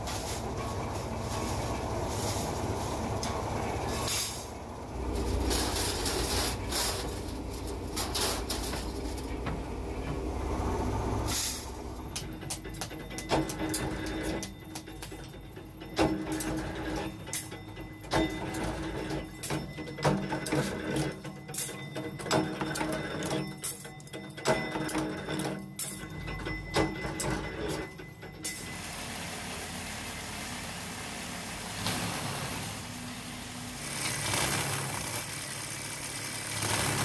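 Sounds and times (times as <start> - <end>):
workshop machinery rumbling: 0.0 - 37.0.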